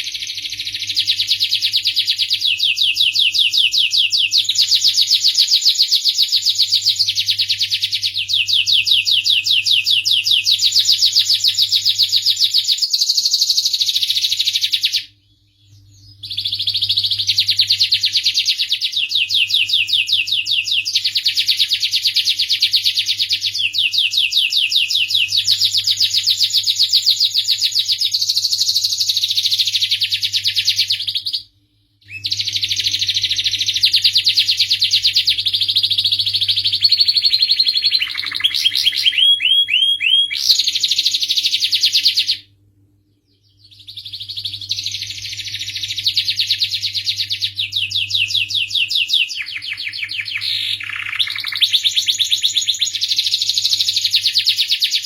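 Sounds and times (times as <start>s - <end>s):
canary singing trills: 0.0s - 42.4s, 43.1s - 55.0s
faint low hum: 6.0s - 54.7s.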